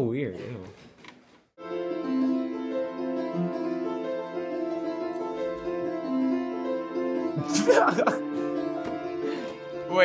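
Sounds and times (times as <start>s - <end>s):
slow piano chords: 1.6s - 10.0s.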